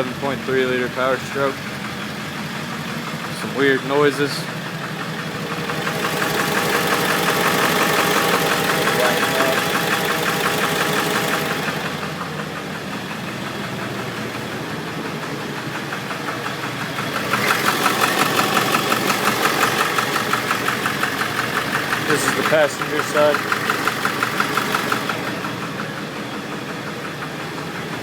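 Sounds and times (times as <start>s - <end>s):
diesel engine idling with knocking: 0.0s - 28.0s.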